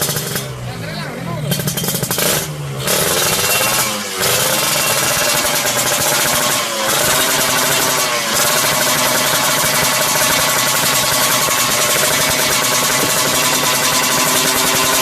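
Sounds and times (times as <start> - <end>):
two-stroke engine revving loud: 0.0 - 15.0.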